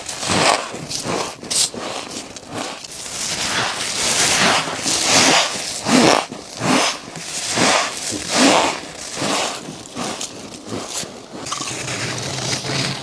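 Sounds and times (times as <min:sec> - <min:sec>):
chewing crunchy frost: 0:00.0 - 0:13.0.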